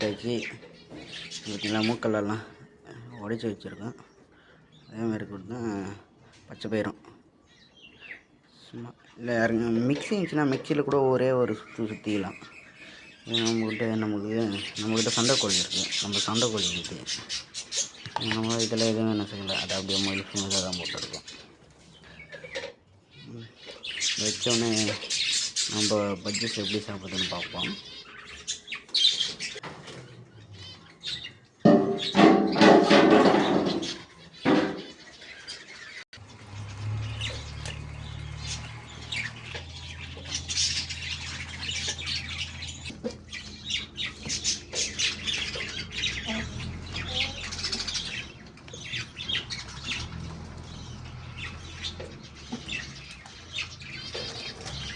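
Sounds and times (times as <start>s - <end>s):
budgerigars chirping and squawking: 0.0s - 6.8s, 7.4s - 54.9s.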